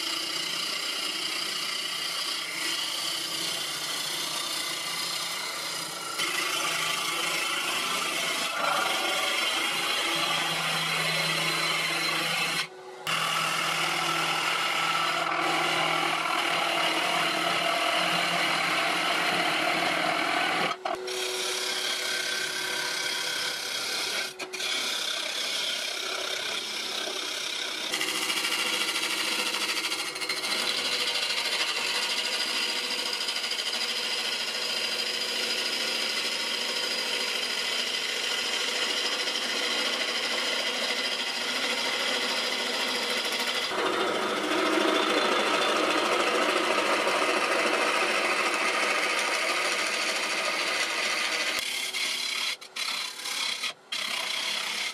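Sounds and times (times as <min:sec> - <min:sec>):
gouge shaving wood on lathe: 0:00.0 - 0:54.9.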